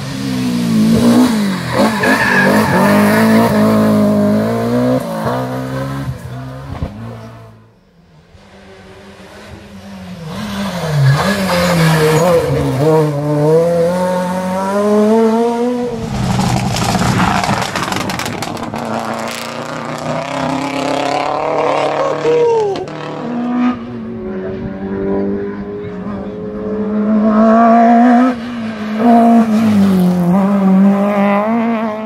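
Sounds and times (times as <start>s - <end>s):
rally car engines revving: 0.0s - 32.0s.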